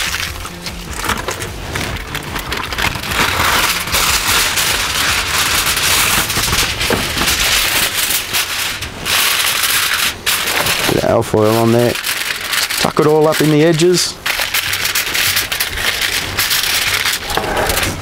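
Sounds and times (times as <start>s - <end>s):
aluminium foil crinkling and tearing: 0.0s - 18.0s.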